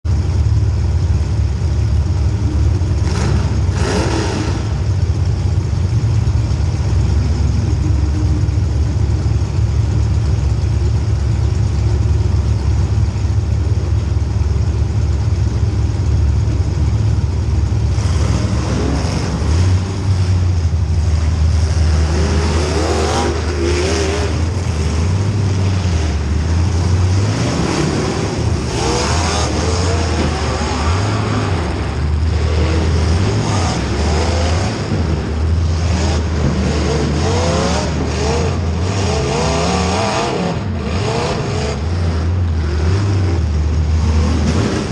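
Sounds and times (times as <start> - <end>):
race car engine running hard: 0.0 - 44.9.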